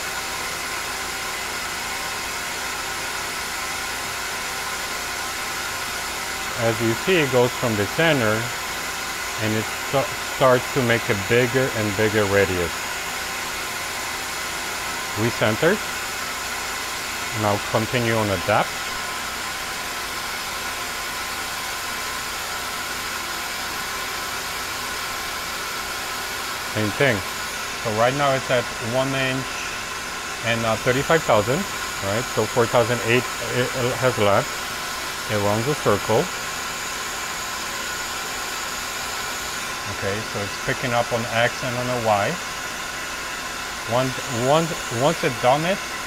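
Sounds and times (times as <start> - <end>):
lathe spindle whirring: 0.0 - 46.0.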